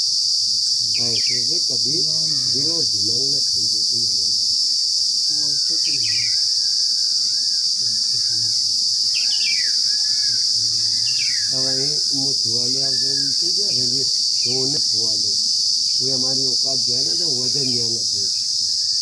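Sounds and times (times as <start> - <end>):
high-pitched insect chorus: 0.0 - 19.0
birds chirping: 0.8 - 19.0.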